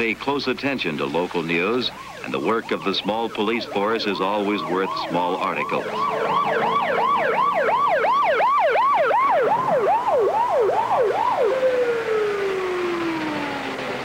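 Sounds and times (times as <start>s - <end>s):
police siren yelping: 0.8s - 14.0s.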